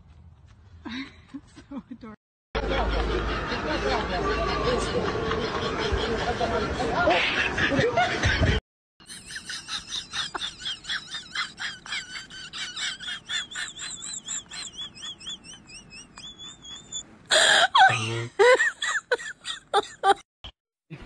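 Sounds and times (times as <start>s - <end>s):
high-pitched laughter: 1.6s - 20.2s
loud bursts of laughter: 2.6s - 20.2s.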